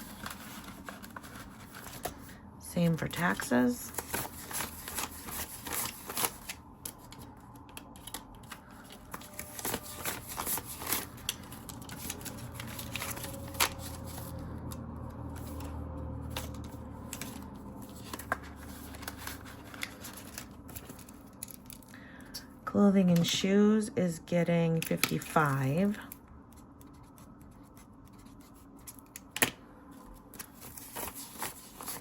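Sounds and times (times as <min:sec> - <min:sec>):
banknotes rustling and flicking: 0:00.0 - 0:21.9, 0:24.8 - 0:32.0
low steady hum: 0:00.0 - 0:32.0.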